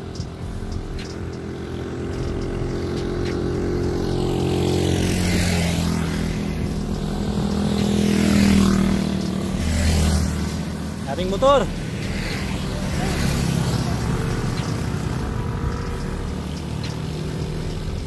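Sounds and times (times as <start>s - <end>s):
motorcycle engines droning: 0.0s - 18.0s.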